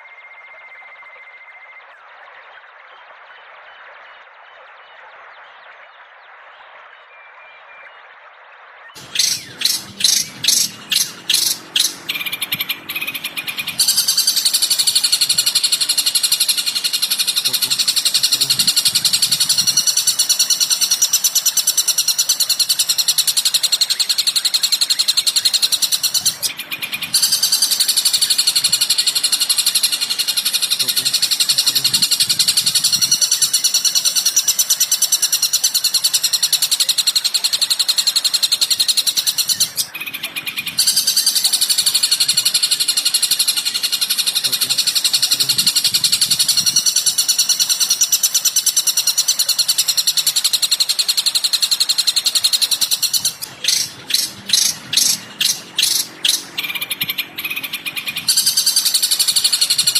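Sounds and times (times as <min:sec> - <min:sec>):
bird chirps: 0:00.0 - 0:59.9
rapid high-pitched bird chatter: 0:08.9 - 0:59.9.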